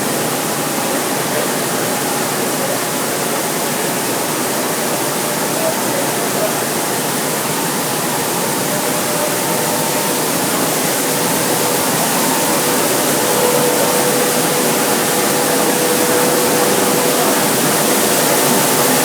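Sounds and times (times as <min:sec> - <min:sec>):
rice milling machine running: 0:00.0 - 0:19.0.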